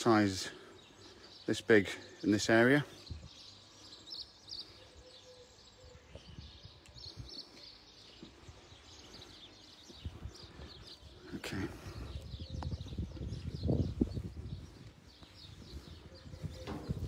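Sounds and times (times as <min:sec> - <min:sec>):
faint bird chirps: 0:00.5 - 0:17.0.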